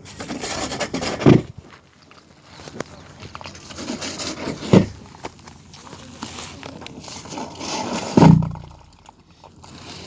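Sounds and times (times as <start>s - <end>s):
rustling plastic sacking and gravel: 0.0s - 10.0s.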